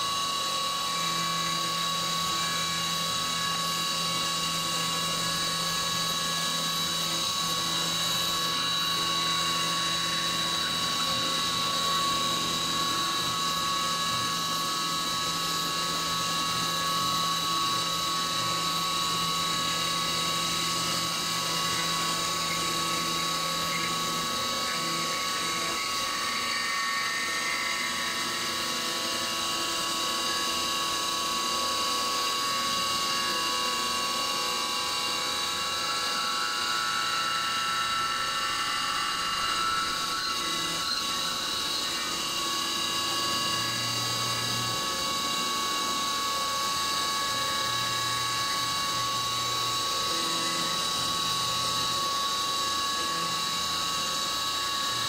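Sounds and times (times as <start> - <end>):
milling machine high-pitched whine: 0.0 - 55.0.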